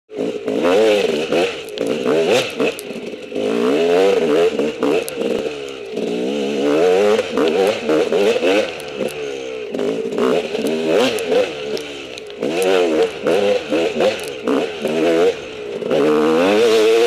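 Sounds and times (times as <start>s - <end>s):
dirt bike engine revving: 0.1s - 17.0s.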